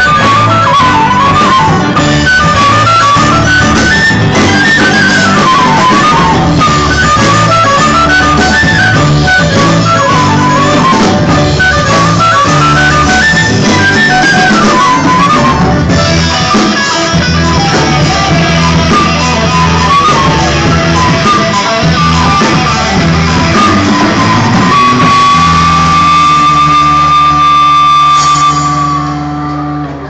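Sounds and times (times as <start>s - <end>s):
folk melody with guitar: 0.0s - 30.0s.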